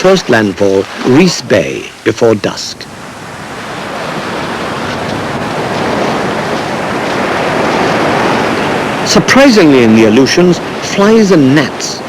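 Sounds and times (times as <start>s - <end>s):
surf breaking on shore: 0.0s - 12.0s.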